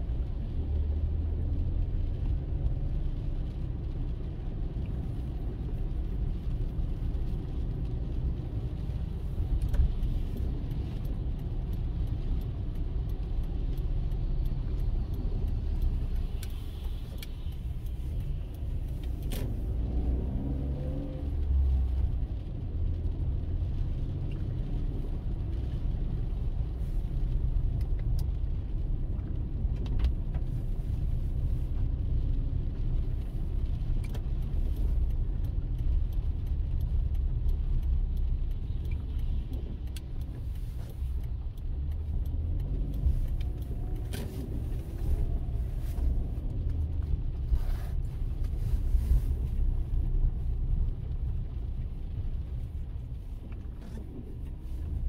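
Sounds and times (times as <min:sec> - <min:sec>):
light clicks and ticks: 0:00.0 - 0:55.0
road and engine rumble: 0:00.0 - 0:55.0.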